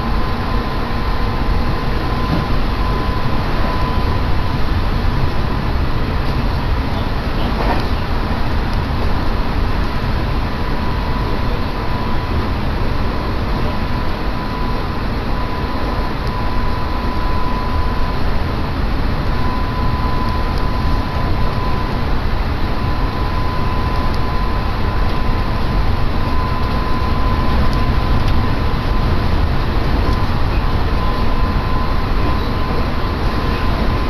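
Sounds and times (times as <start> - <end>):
thin high whine: 0.0 - 34.0
train wheels rumbling on track: 0.0 - 34.0.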